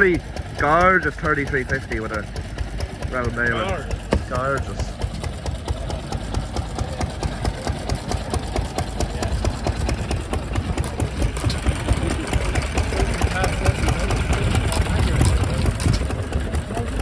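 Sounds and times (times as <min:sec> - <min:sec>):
low engine rumble: 0:00.0 - 0:17.0
stationary engines knocking: 0:00.0 - 0:17.0.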